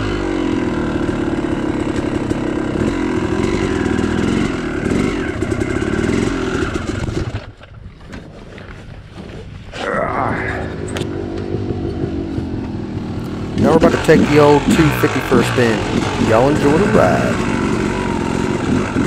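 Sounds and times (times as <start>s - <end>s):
dirt bike engine idling: 0.0s - 7.6s, 10.8s - 19.0s.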